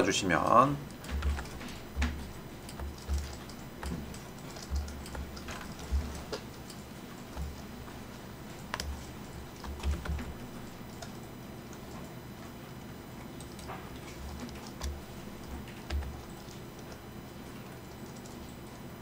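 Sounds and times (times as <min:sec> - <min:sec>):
keyboard and mouse clicking: 0:00.8 - 0:12.2, 0:13.4 - 0:18.8.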